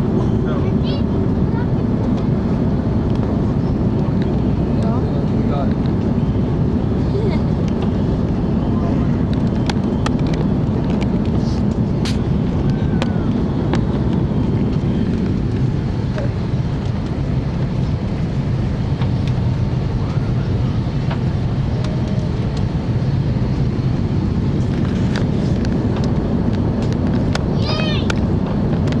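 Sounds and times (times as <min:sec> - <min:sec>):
jet engine and airflow noise: 0:00.0 - 0:29.0.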